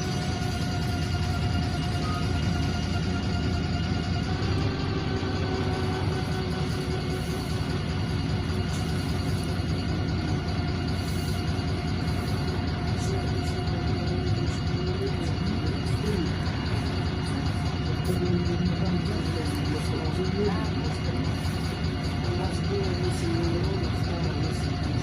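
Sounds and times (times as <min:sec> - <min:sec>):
bus engine and road rumble: 0:00.0 - 0:25.0
thin steady whine: 0:00.0 - 0:25.0.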